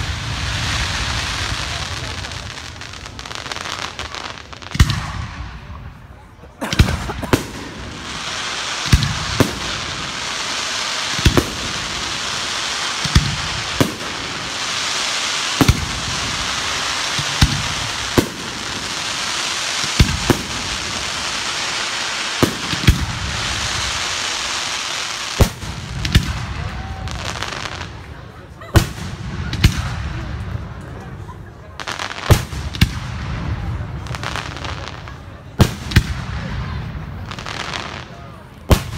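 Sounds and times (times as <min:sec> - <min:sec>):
burning fireworks hissing: 0:00.0 - 0:38.9.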